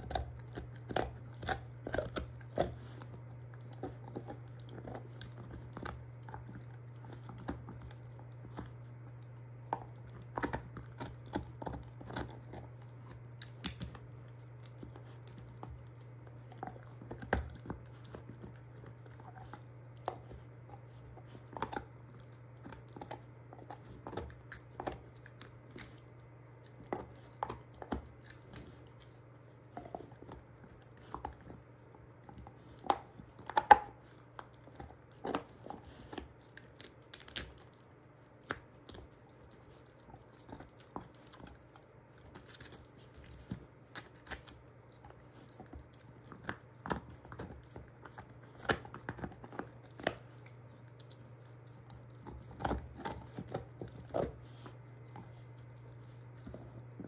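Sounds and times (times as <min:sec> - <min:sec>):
dog gnawing a bone: 0:00.0 - 0:57.0.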